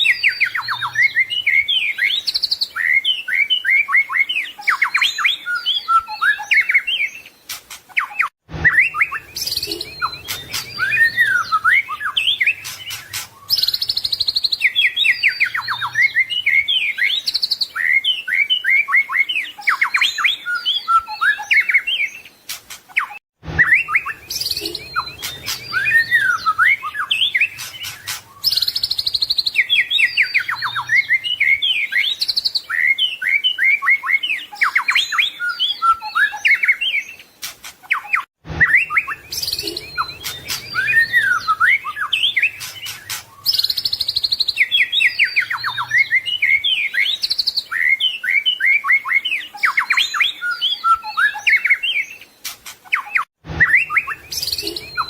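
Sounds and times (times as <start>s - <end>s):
bird singing whistles and trills: 0.0s - 55.0s.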